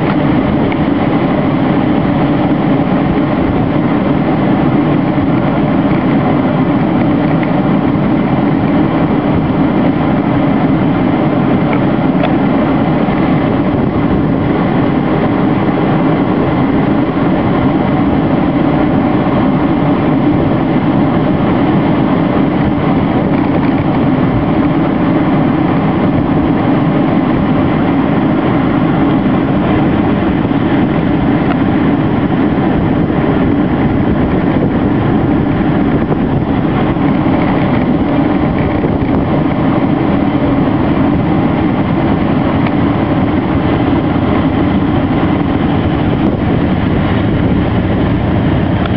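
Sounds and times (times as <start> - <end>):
cars passing on road: 0.0 - 48.9.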